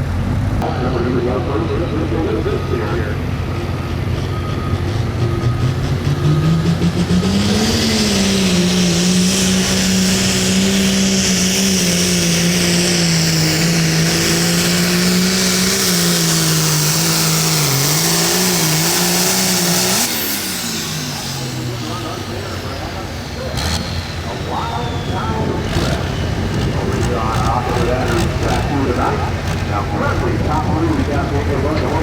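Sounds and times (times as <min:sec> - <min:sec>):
diesel tractor engine revving: 0:00.0 - 0:32.0.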